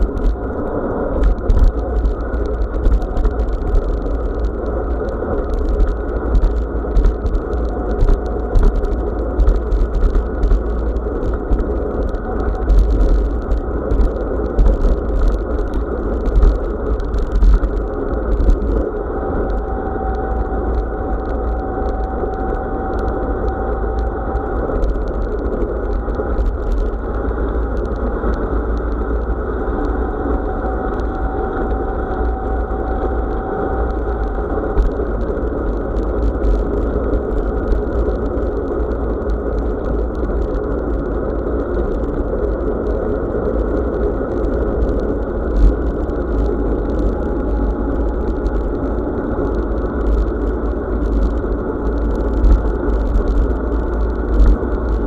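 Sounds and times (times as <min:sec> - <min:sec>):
bicycle tyres rumbling on road: 0:00.0 - 0:55.0
wind buffeting microphone: 0:00.0 - 0:55.0.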